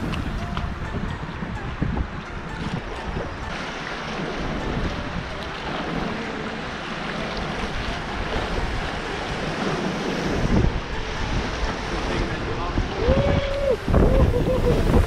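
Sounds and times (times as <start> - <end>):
river rapids rushing: 0.0 - 15.0
wind buffeting microphone: 0.0 - 15.0.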